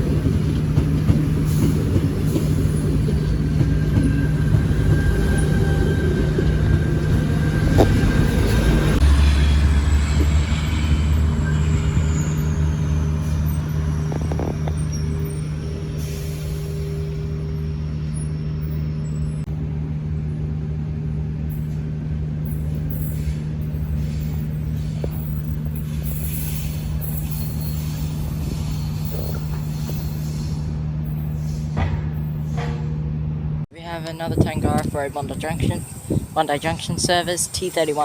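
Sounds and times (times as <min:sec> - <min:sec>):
electric train rumble and hum: 0:00.0 - 0:38.0.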